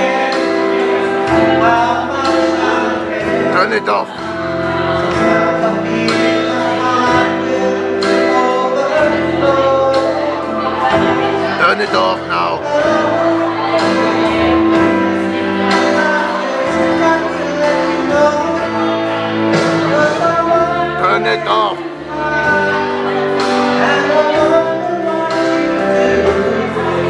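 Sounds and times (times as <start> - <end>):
backing track with steady beat: 0.0 - 27.0
man singing into a microphone: 0.0 - 27.0.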